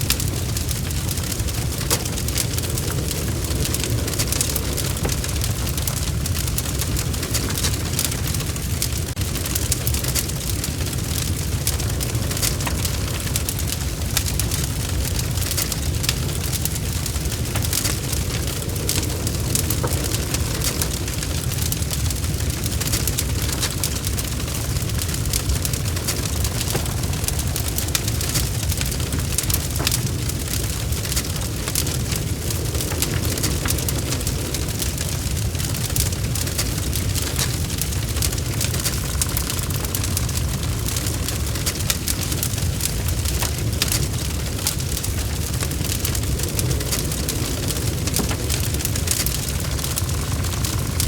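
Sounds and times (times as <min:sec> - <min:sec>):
fireplace fire crackling: 0:00.0 - 0:51.0.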